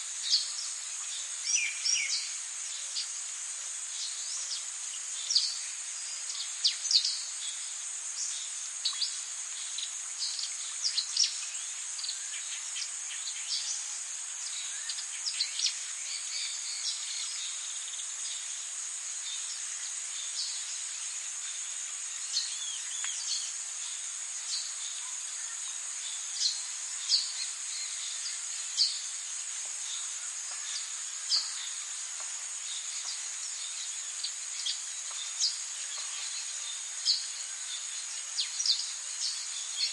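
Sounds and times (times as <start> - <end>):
insect drone: 0.0 - 39.9.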